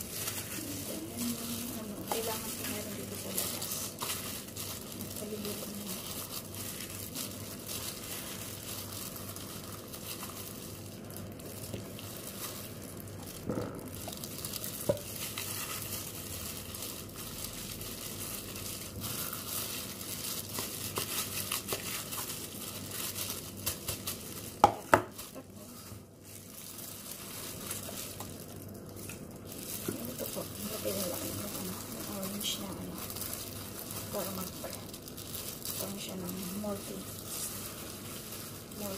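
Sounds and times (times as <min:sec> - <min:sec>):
plastic gloves crinkling: 0:00.0 - 0:38.9.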